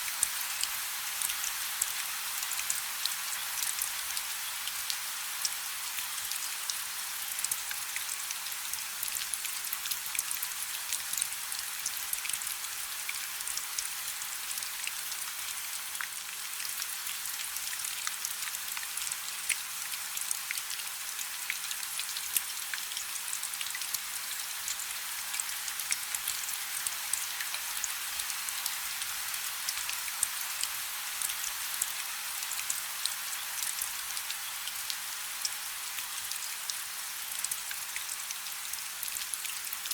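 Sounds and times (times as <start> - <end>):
rain falling on a river: 0.0 - 39.9.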